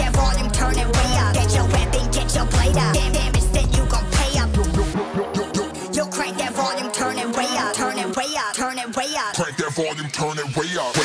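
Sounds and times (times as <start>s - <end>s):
rapping over a hip hop beat: 0.0s - 11.0s.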